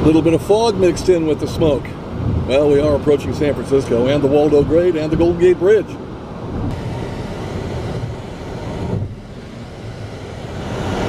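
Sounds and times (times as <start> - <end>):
road and tyre noise: 0.0 - 11.0.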